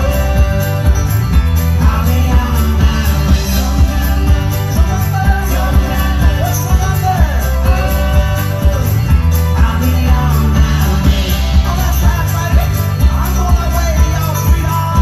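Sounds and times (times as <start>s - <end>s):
folk-rock band playing: 0.0s - 15.0s
person singing: 0.0s - 15.0s.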